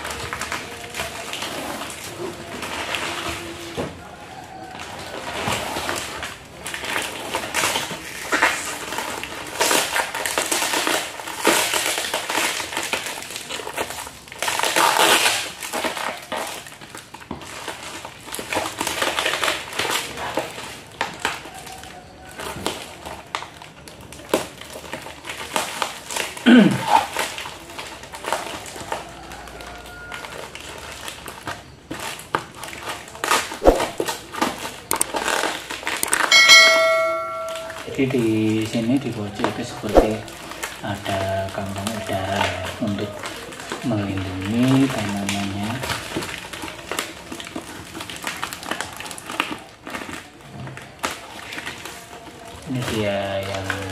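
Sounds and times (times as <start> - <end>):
plastic wrap crinkling: 0.0 - 53.9.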